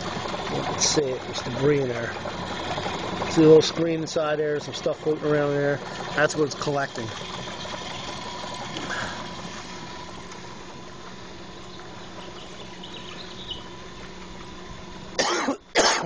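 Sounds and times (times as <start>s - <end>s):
small motor humming: 0.0s - 15.8s.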